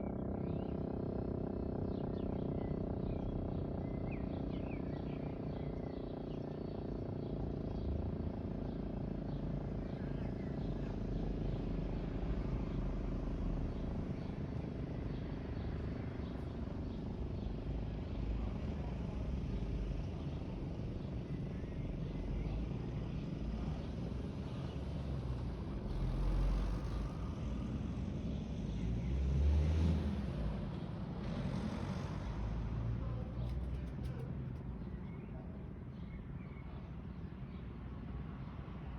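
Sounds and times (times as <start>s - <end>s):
outdoor background rumble: 0.0s - 38.9s.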